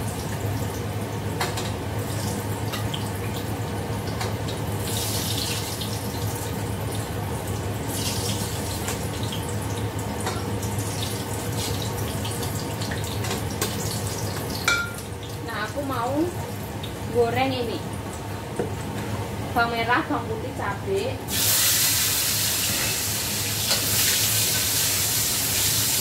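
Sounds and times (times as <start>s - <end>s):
food frying in hot oil: 0.0s - 26.0s.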